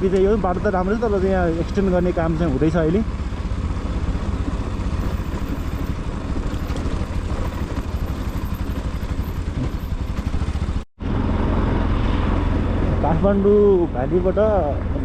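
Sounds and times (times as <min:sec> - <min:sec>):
motorcycle engine rumbling: 0:00.0 - 0:15.0
road and wind noise: 0:00.0 - 0:15.0.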